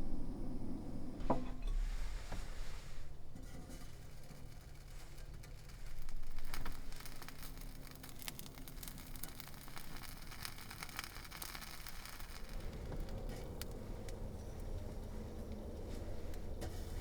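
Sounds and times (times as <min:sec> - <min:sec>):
low steady hum: 0:00.0 - 0:17.0
rustling of things handled: 0:01.4 - 0:17.0.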